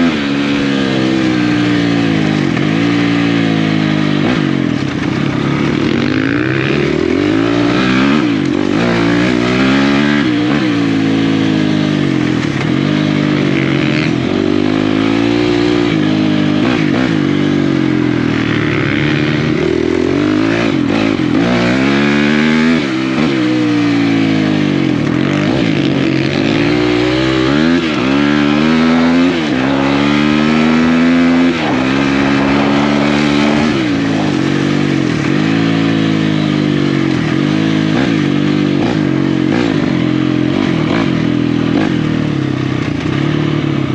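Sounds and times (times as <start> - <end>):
off-road motorcycle engine revving: 0.0 - 43.9.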